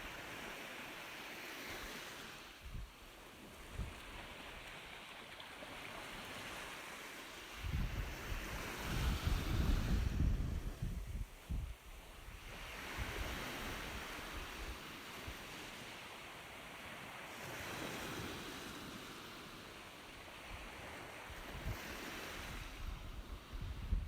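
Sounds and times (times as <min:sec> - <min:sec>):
ocean waves washing in: 0:00.0 - 0:24.0.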